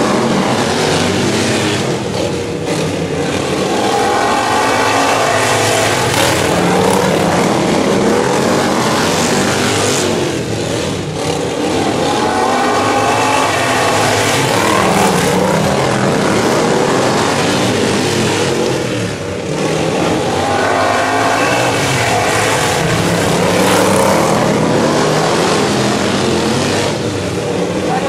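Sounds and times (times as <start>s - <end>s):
lawn mower engines racing: 0.0s - 28.0s.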